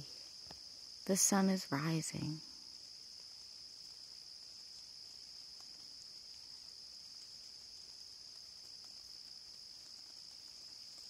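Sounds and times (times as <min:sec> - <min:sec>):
insect chorus trilling: 0:00.0 - 0:11.0
faint ticks: 0:00.1 - 0:01.0, 0:02.6 - 0:11.0.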